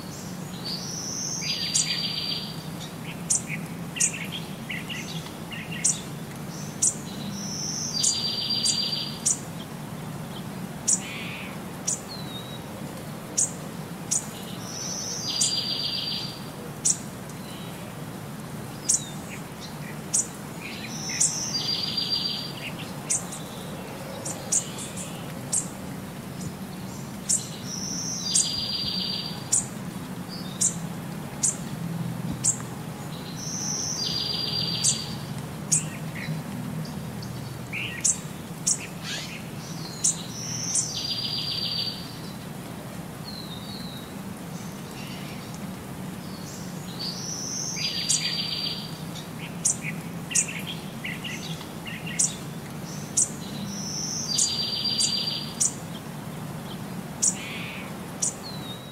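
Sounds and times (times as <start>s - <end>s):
songbird chirps: 0.0s - 58.9s.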